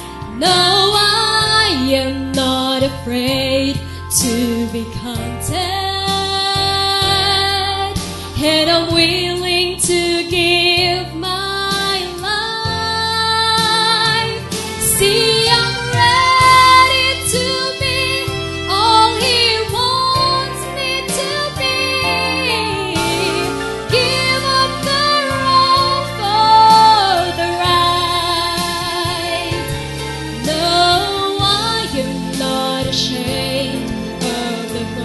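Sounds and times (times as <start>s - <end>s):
instrumental accompaniment: 0.0s - 35.0s
woman singing into microphone: 0.2s - 35.0s.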